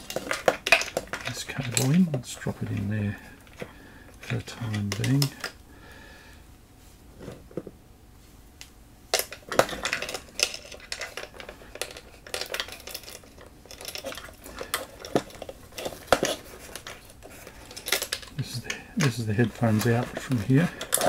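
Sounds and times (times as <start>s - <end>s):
small hard parts clicking: 0.0s - 5.6s, 9.1s - 21.0s.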